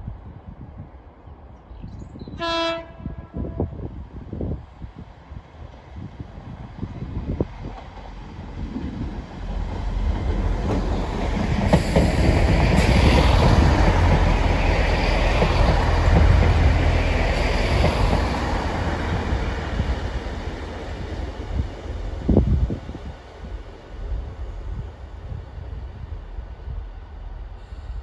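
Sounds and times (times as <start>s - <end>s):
diesel train engines rumbling: 2.4s - 28.0s
train wheels on rails: 5.3s - 28.0s.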